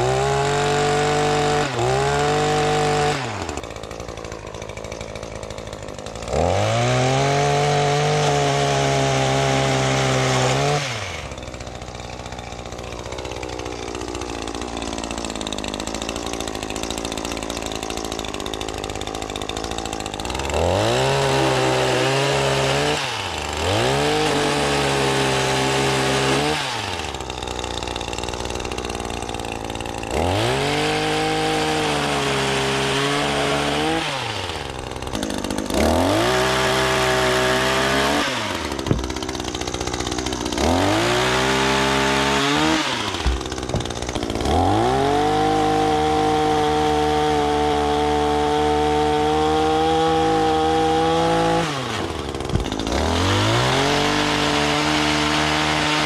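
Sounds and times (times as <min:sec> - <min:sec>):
pole saw engine revving: 0:00.0 - 0:56.0.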